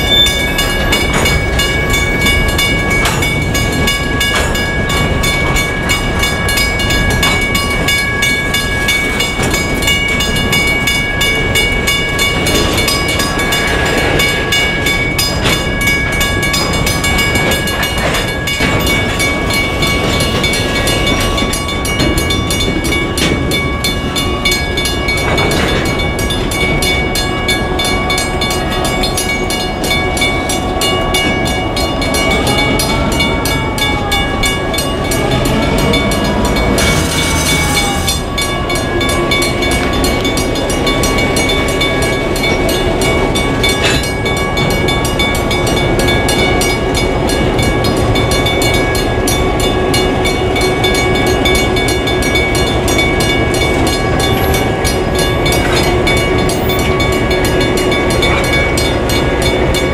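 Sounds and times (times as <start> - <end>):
freight train wheels clattering: 0.0 - 59.9
high ringing: 0.0 - 59.9.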